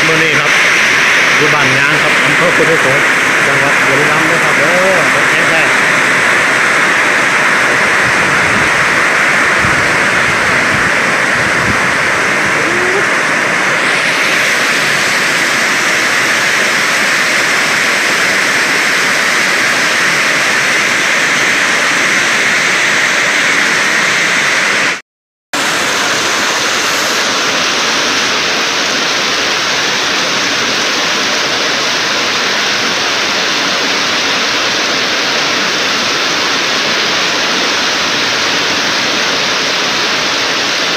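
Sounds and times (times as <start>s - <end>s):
heavy rain pouring: 0.0s - 25.0s, 25.6s - 40.9s.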